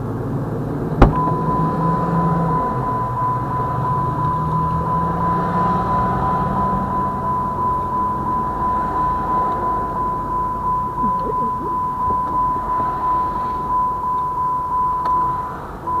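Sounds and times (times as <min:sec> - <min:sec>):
low rumble of train or traffic: 0:00.0 - 0:16.0
crossing bell ringing: 0:01.1 - 0:16.0.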